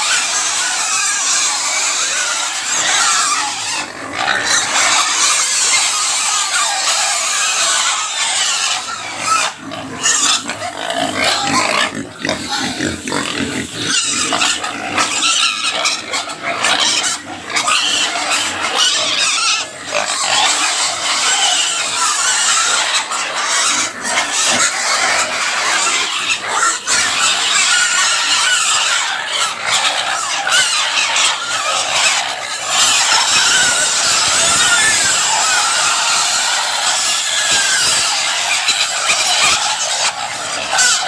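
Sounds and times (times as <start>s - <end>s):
pig squealing: 0.0s - 41.0s.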